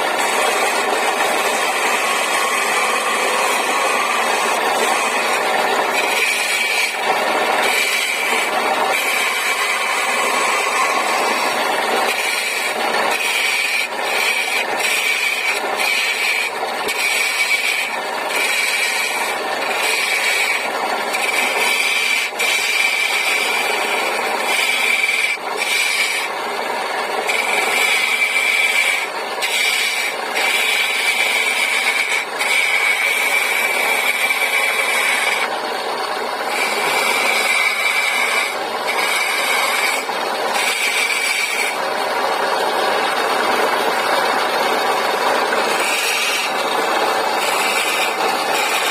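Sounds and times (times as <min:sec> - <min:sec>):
turning tool cutting wood: 0:00.0 - 0:48.9
wood lathe running: 0:00.0 - 0:48.9.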